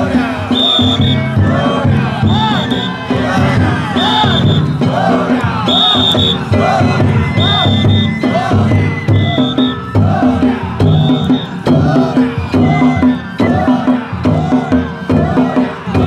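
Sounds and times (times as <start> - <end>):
high flute: 0.0 - 4.8, 5.6 - 16.0
crowd chanting: 0.0 - 16.0
drums: 0.0 - 16.0.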